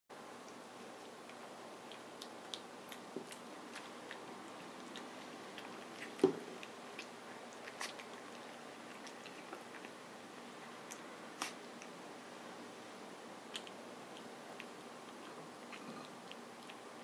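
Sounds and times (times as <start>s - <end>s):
puppy lapping and chewing food: 0.4s - 12.0s, 13.5s - 17.0s.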